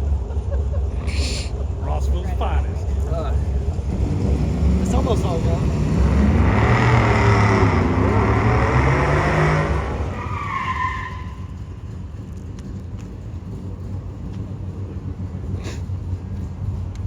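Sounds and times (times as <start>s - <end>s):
car engine accelerating hard: 0.0s - 17.0s
tire squeal: 2.8s - 16.5s.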